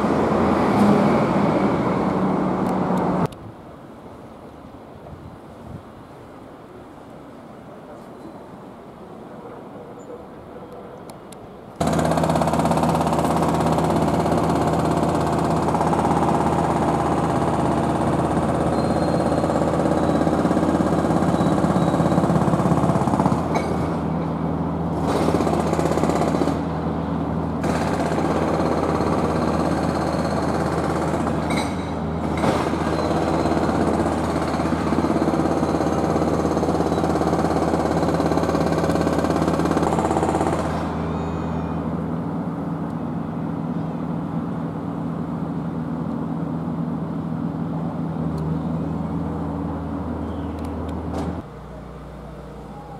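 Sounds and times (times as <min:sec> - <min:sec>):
construction machinery engine running: 0:00.0 - 0:03.4, 0:11.6 - 0:52.9.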